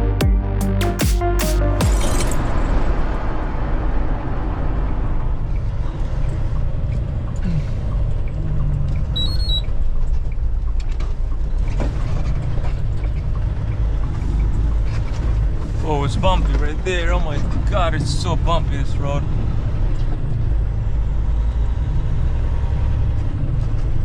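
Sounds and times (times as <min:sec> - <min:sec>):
truck engine and road rumble: 0:01.9 - 0:24.0.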